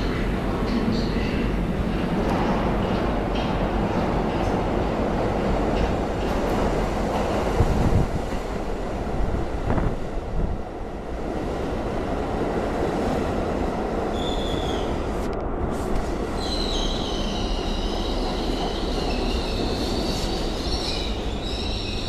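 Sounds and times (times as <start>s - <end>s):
subway train rumbling on rails: 0.0s - 22.0s.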